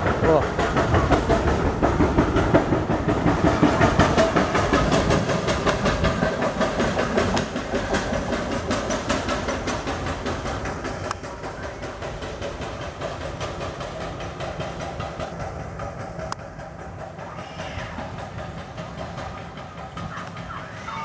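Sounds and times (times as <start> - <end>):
diesel rail machine rumbling: 0.0 - 21.0
wheels clicking over rail joints: 0.0 - 21.0.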